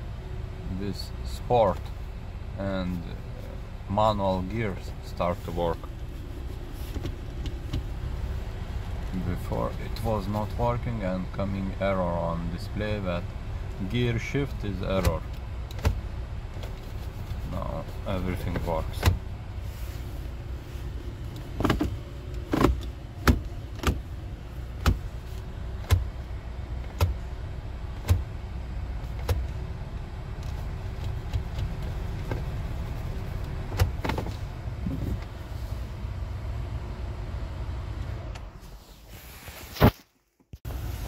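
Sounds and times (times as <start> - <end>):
car engine idling hum: 0.0 - 39.6, 40.6 - 41.0.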